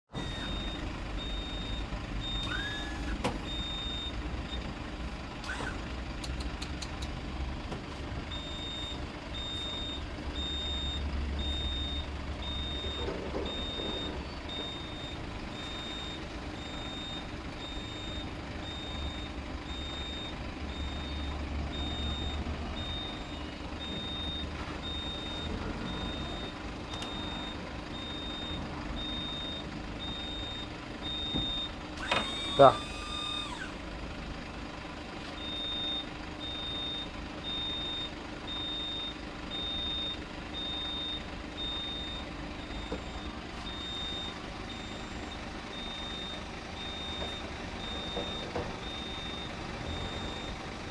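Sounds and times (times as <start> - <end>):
high warning beeps: 0.2 - 4.7, 8.3 - 33.7, 35.4 - 50.6
low hum of lift drive: 0.2 - 50.9.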